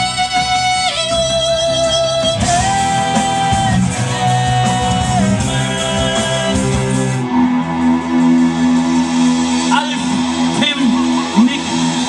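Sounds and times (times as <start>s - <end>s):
loud rock music: 0.0s - 12.0s.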